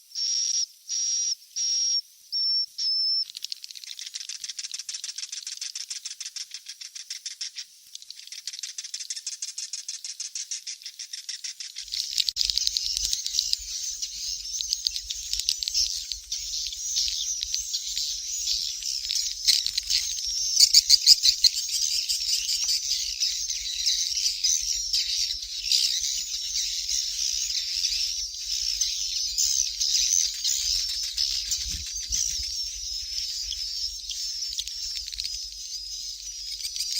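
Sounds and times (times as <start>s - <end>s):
swiftlet chicks twittering: 0.2s - 36.9s.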